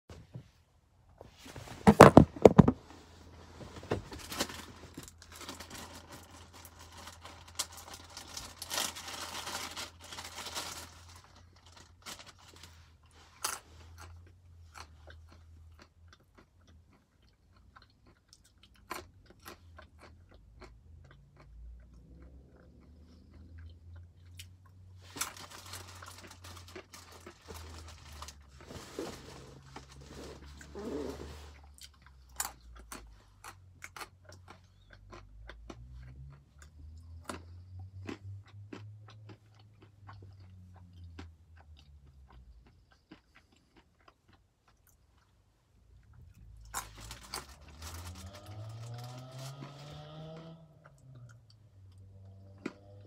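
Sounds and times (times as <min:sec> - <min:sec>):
almonds being chewed: 0:04.3 - 0:53.0.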